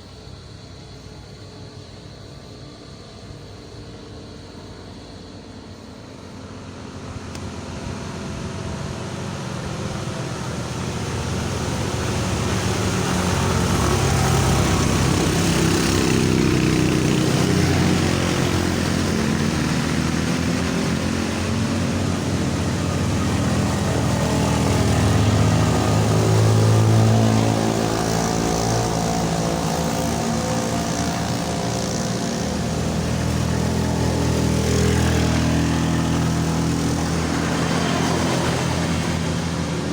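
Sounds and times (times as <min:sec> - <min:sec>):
vehicle engine under load: 0:06.1 - 0:39.9.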